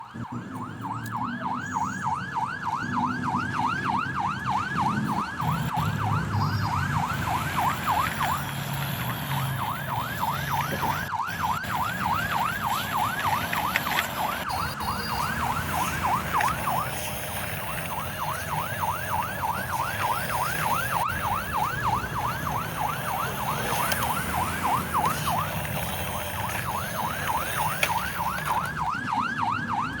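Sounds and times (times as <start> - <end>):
toy truck electronic siren: 0.0 - 30.0.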